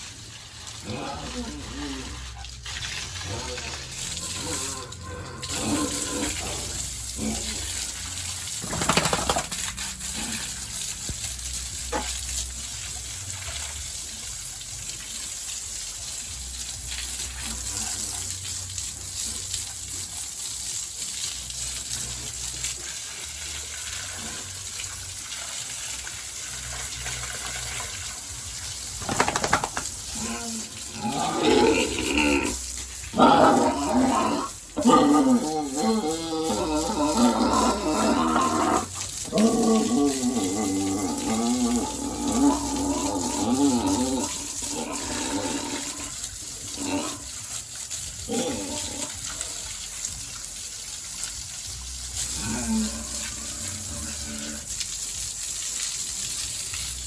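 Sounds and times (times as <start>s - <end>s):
water spraying: 0.0s - 57.0s.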